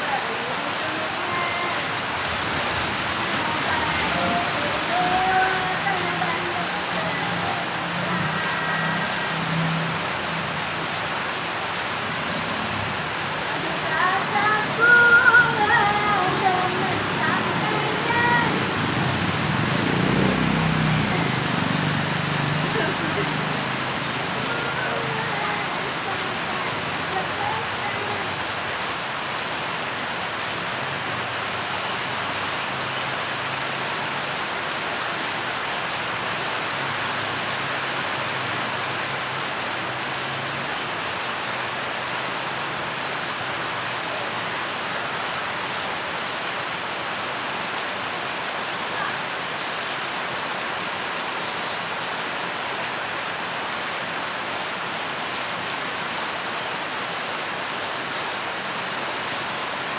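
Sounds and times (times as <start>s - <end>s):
heavy rain splashing on water: 0.0s - 59.9s.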